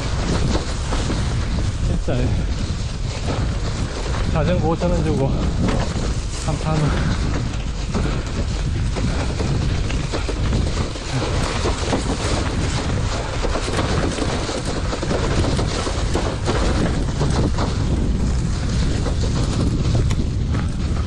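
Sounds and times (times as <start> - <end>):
bicycle rattling over rough ground: 0.0 - 21.0
wind buffeting microphone: 0.0 - 21.0.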